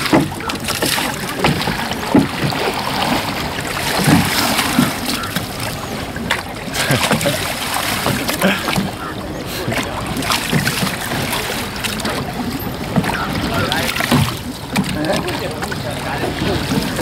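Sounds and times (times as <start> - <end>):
oars knocking on wooden hull: 0.0 - 17.0
oars splashing in water: 0.0 - 17.0.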